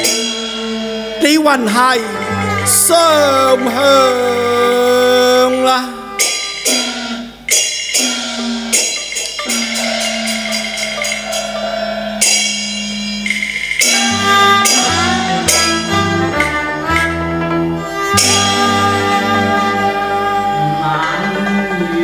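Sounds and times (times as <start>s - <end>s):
sharp percussion strikes: 0.0s - 22.0s
sustained melody notes: 0.0s - 22.0s.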